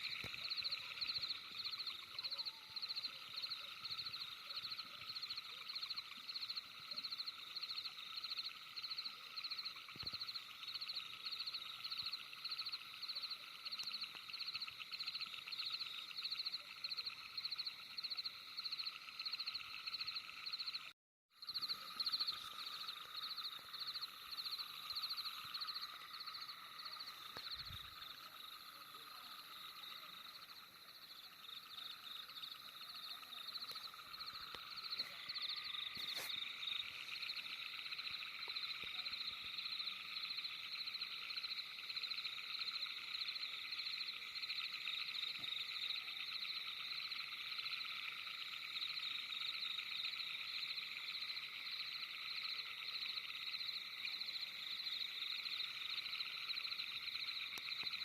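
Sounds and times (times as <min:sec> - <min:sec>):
frogs calling in pulsing trills: 0:00.0 - 0:58.0.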